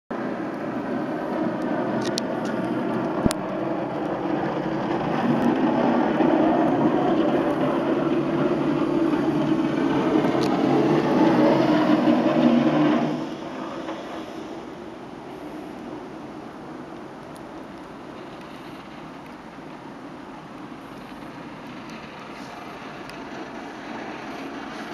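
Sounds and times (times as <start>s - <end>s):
snow plow trucks passing: 0.2s - 24.9s.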